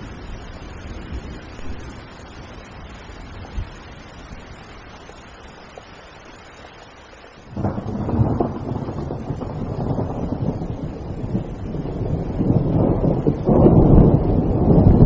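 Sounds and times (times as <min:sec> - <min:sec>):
thunderclap rumbling: 0:00.0 - 0:05.0, 0:07.5 - 0:15.0
steady rain falling: 0:00.0 - 0:15.0.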